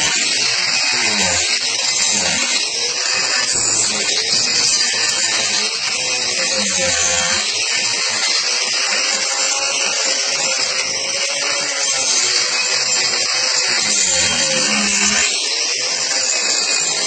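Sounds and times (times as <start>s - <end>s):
angle grinder grinding wood: 0.0s - 17.0s.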